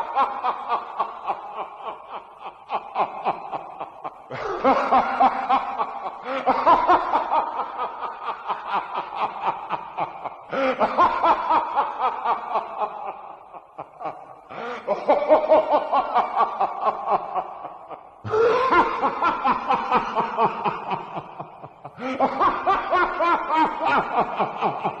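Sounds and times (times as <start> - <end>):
evil laugh: 0.0 - 25.0.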